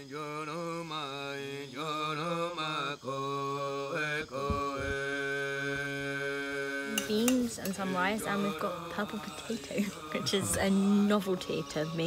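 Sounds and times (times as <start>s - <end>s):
chanting voice with sliding notes: 0.0s - 12.0s.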